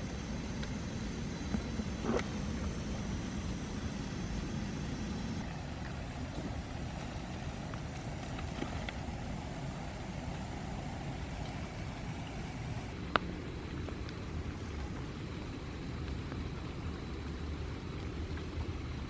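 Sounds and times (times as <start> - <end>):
faint ticks of raindrops: 0.0 - 19.0.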